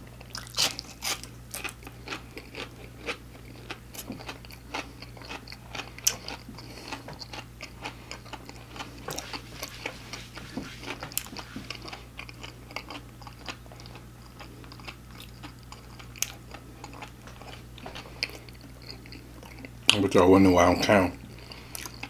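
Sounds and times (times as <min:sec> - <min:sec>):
chewing crispy food: 0:00.0 - 0:09.4, 0:10.9 - 0:20.0, 0:21.2 - 0:22.0.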